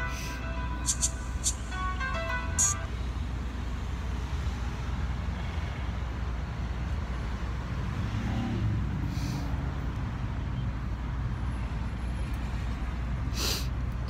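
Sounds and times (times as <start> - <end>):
road vehicle rumble: 0.0 - 14.0.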